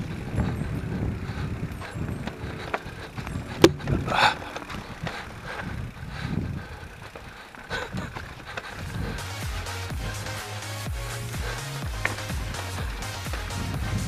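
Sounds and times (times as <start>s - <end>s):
bike tyres rumbling on trail: 0.0s - 14.0s.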